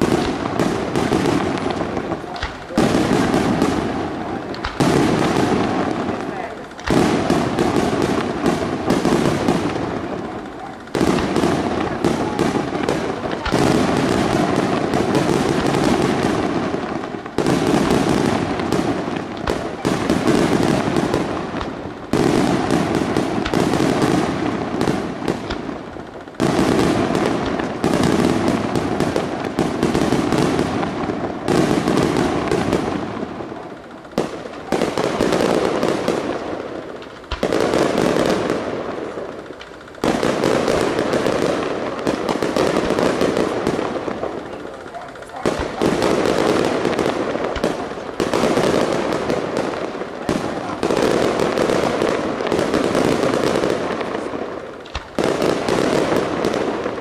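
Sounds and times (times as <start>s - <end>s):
firework shell bursts: 0.0s - 57.0s
rapid crackling pops: 0.0s - 57.0s.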